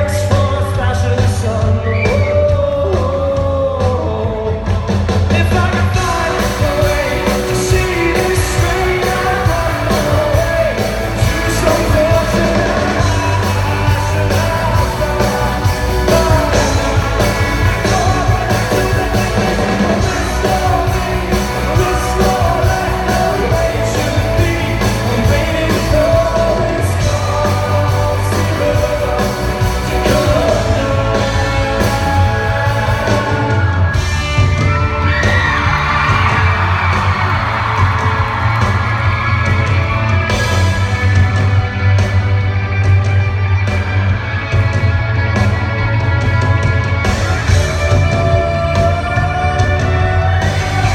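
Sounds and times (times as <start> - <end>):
live rock band playing: 0.0 - 50.9
man singing rock song: 0.0 - 50.9.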